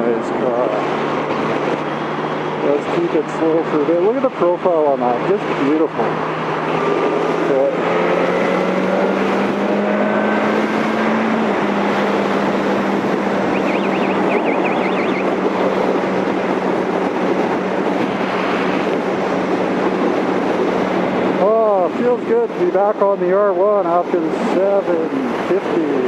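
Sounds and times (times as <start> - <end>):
motorcycle engine cruising: 0.0 - 25.8
wind noise: 0.0 - 26.0.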